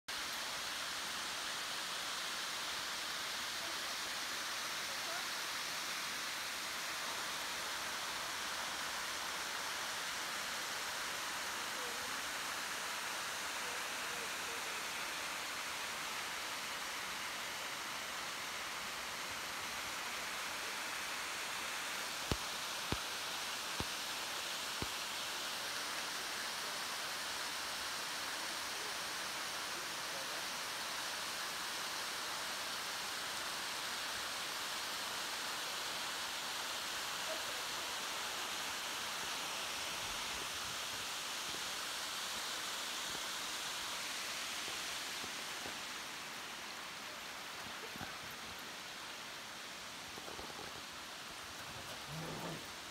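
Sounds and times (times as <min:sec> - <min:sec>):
waterfall rushing: 0:00.2 - 0:52.9.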